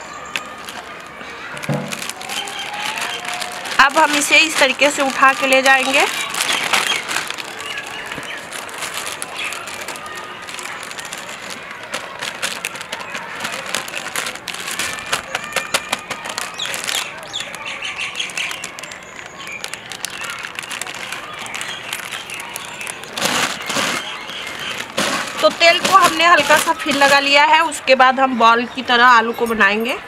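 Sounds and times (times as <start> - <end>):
birds chirping: 0.0 - 11.7, 15.0 - 30.0
plastic sheet crinkling: 0.0 - 27.8.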